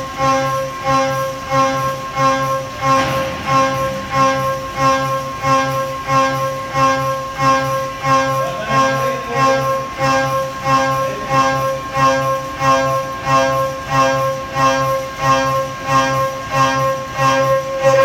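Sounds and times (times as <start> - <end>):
end mill milling steel whine: 0.0 - 18.0.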